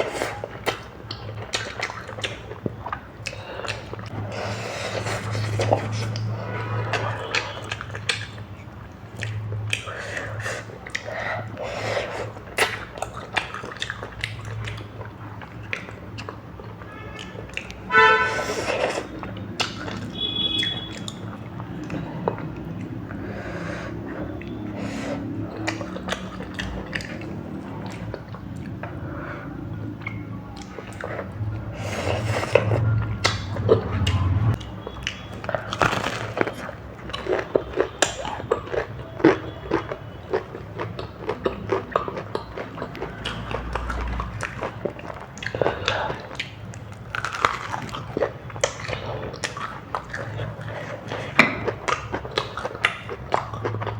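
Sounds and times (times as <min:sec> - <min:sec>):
chewing and biting food: 0:00.0 - 0:53.9.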